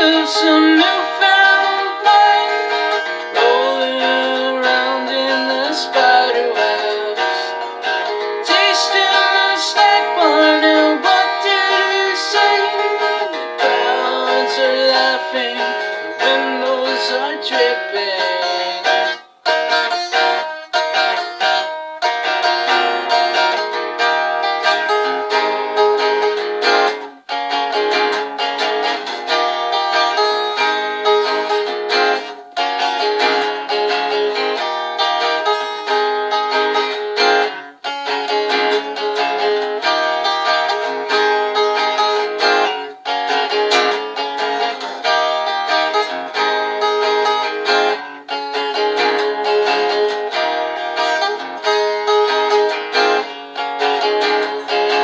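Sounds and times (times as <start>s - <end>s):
guitar picking and strumming: 0.0s - 55.0s.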